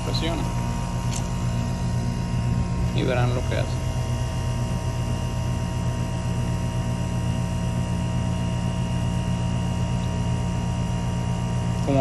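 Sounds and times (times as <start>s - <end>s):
air conditioner compressor humming: 0.0s - 12.0s.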